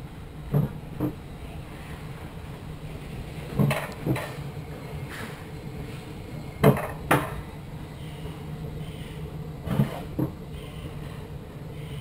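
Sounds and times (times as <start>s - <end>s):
sled rumbling on steel rails: 0.0s - 12.0s.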